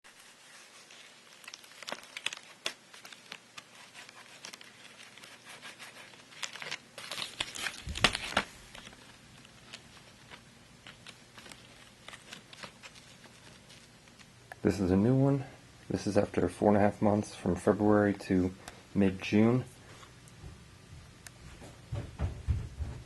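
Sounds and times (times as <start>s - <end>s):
air filters crinkling and rustling: 0.0s - 23.0s.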